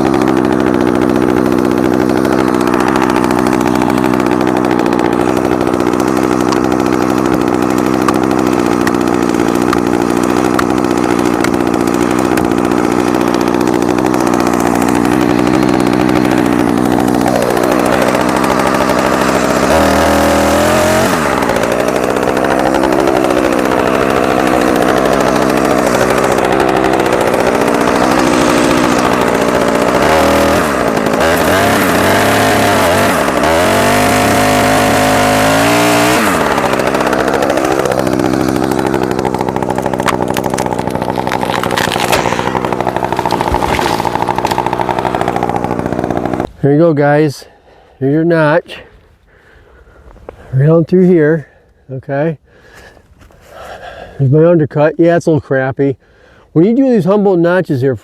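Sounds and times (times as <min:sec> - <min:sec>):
chainsaw cutting tree: 0:00.0 - 0:46.6, 0:52.4 - 0:54.2.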